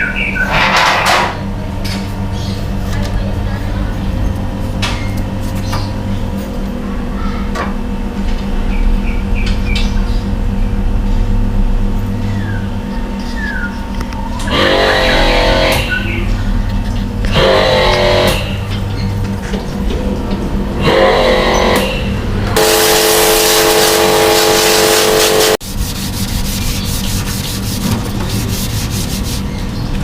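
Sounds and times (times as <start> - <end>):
motor humming: 1.4 - 30.0.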